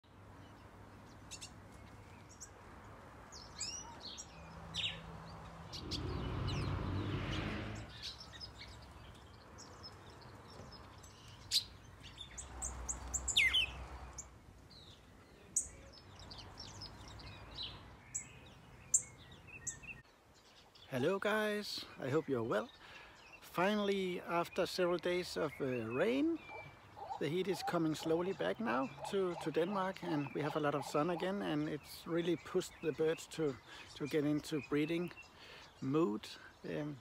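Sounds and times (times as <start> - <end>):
finches chirping: 3.3 - 7.0, 7.8 - 23.4, 24.5 - 37.0.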